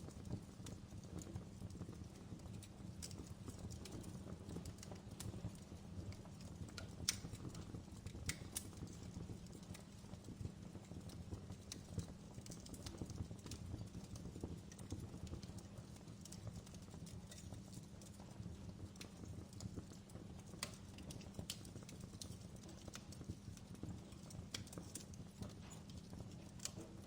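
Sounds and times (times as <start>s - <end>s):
wood fire crackling: 0.1s - 27.0s.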